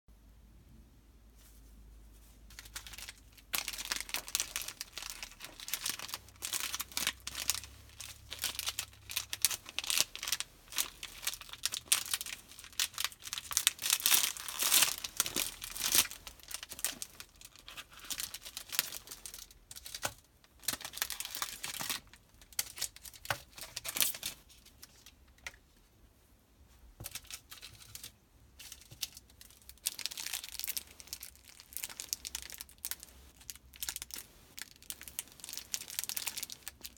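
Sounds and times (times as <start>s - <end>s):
plastic wrapper crinkling and tearing: 2.5s - 25.6s, 27.0s - 36.9s.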